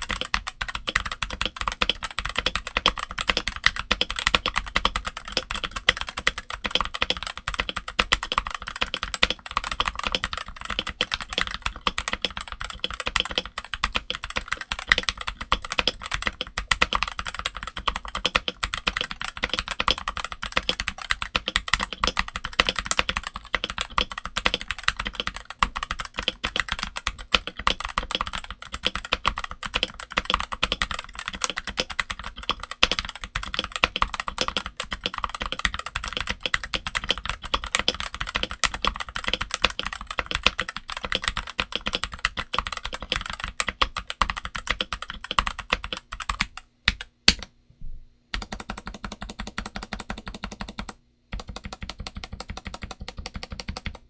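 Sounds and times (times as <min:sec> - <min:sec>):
fast typing on mechanical keyboard: 0:00.0 - 0:47.1, 0:48.4 - 0:54.0.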